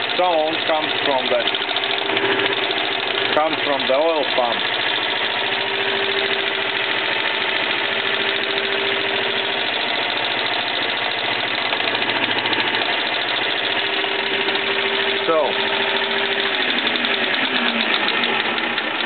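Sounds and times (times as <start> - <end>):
lathe gears whirring: 0.0 - 19.0
oil pump knocking: 0.0 - 19.0.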